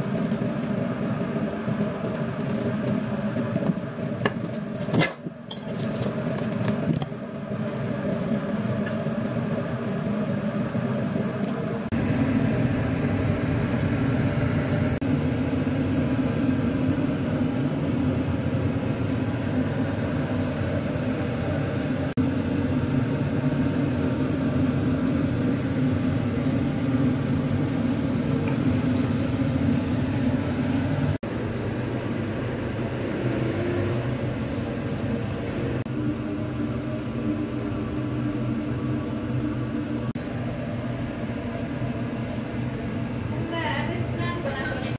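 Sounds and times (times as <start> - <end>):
appliance fan humming: 0.0 - 44.9.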